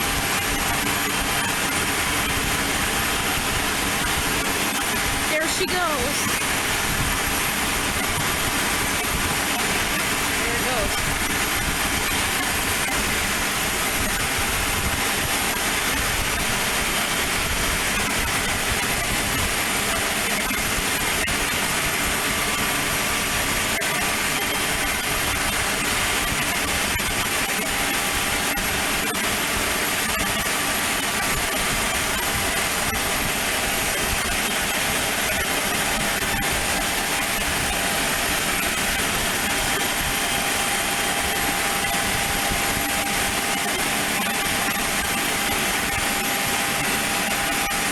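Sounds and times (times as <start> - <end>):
aircraft engine running: 0.0 - 47.9.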